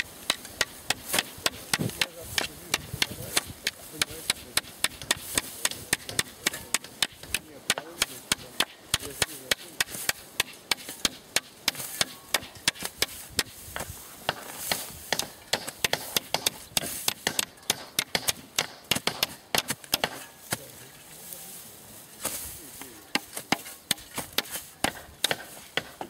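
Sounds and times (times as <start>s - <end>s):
soil scraping: 0.0s - 26.0s
spade chopping into turf: 0.2s - 20.8s, 22.2s - 26.0s.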